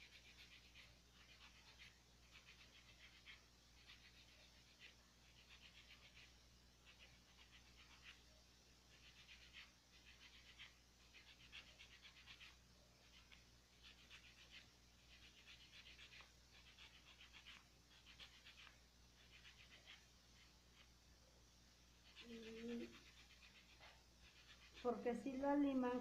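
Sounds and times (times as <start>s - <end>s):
buffer block scratching on nails: 0.0s - 20.9s, 22.0s - 25.0s.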